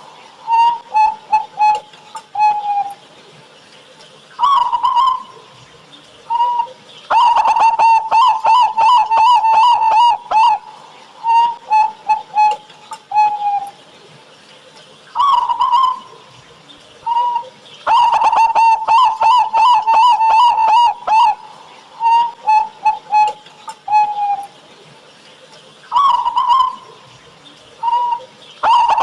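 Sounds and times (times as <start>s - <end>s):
dove cooing: 0.0s - 3.1s, 4.4s - 5.7s, 6.3s - 13.8s, 15.2s - 24.6s, 25.9s - 29.0s.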